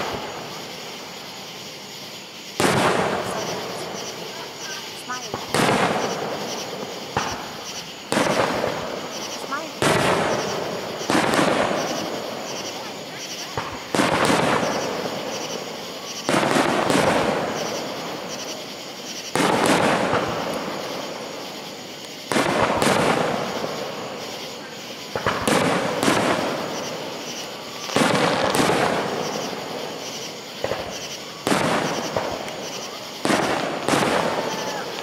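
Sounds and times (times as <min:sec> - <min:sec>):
firework shells bursting: 0:02.4 - 0:35.0.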